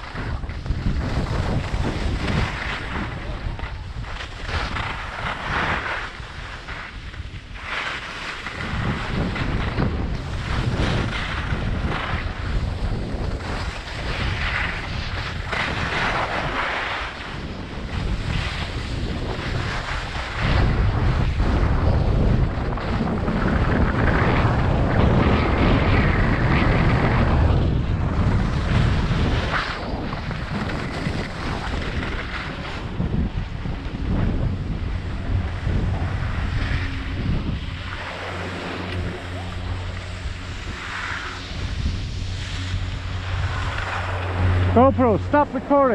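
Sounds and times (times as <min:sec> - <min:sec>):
skis scraping over snow: 0:00.0 - 0:45.9
wind buffeting microphone: 0:00.0 - 0:45.9.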